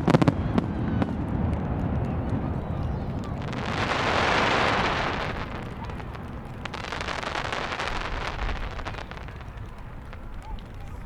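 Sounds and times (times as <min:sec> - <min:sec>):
fireworks crackling: 0:01.0 - 0:11.0.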